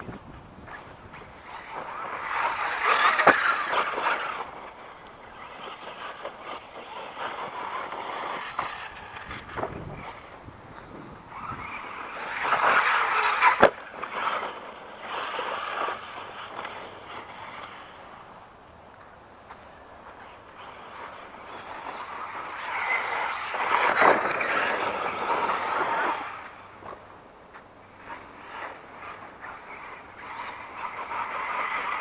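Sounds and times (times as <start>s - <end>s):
electric toy truck motor: 1.2s - 18.2s, 20.1s - 27.0s, 28.0s - 32.0s.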